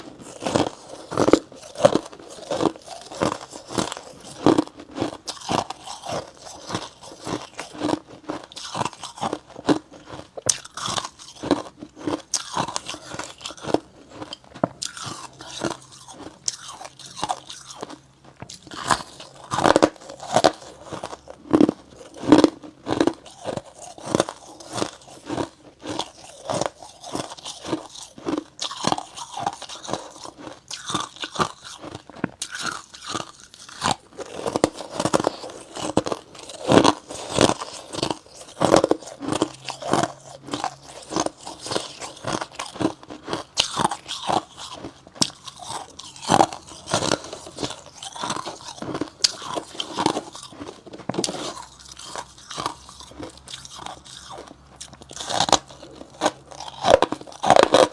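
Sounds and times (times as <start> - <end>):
crunching and chewing frost: 0.0 - 57.9.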